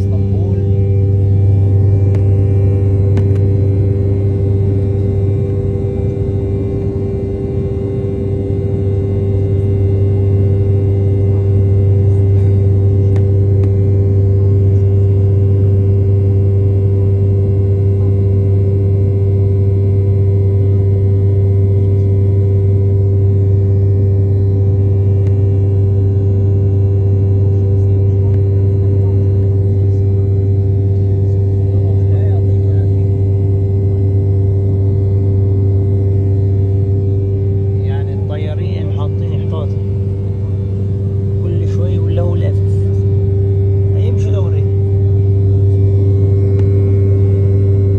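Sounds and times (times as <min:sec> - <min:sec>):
jet engines droning in cabin: 0:00.0 - 0:47.9.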